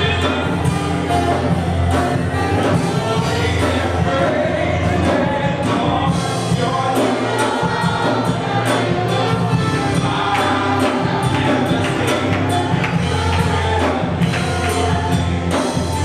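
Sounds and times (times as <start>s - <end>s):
band and singers performing gospel: 0.0s - 16.0s.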